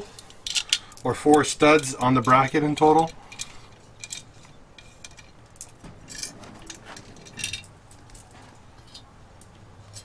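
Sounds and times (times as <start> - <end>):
metal parts clinking: 0.2 - 9.1.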